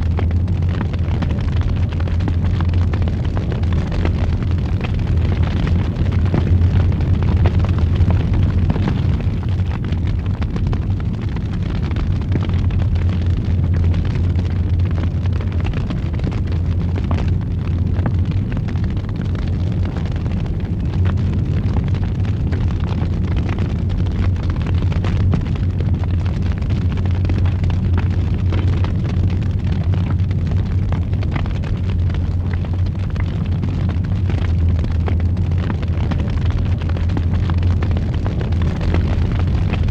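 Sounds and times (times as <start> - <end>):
fireplace fire roaring: 0.0 - 39.9.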